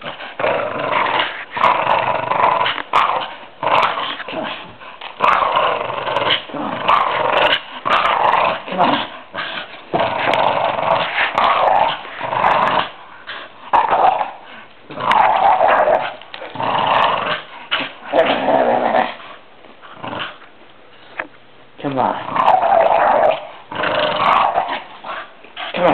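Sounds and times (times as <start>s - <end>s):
dog growling in play: 0.0s - 20.5s, 22.1s - 25.9s.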